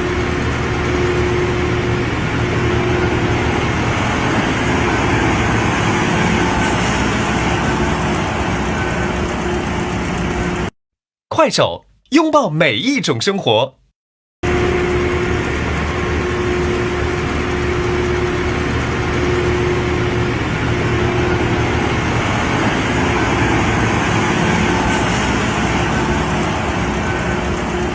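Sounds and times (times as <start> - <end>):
heavy machine engine humming: 0.0 - 10.7, 14.4 - 27.9.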